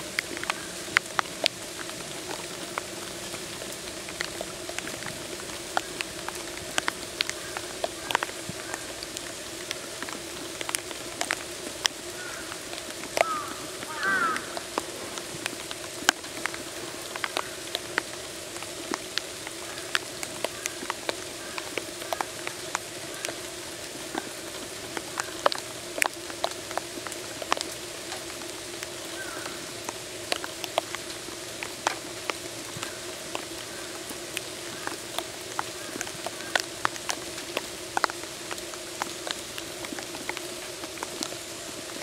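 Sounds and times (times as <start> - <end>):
rain drips and taps: 0.0 - 42.0.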